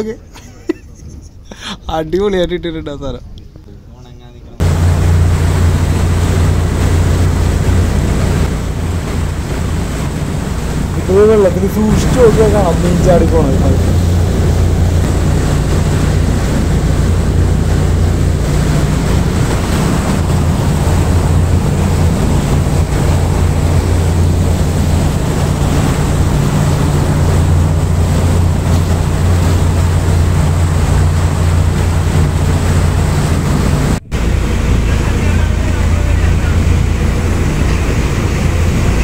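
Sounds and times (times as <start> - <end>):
boat engine humming: 0.0 - 39.0.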